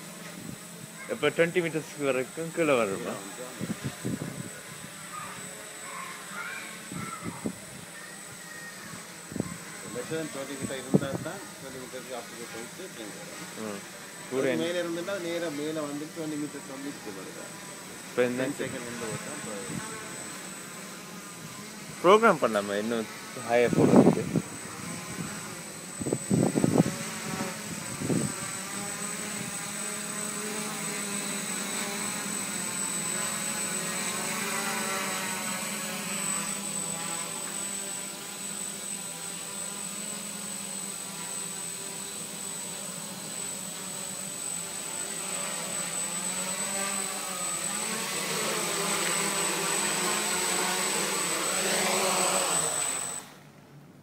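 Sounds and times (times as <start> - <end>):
quadcopter motors buzzing: 0.0 - 53.8.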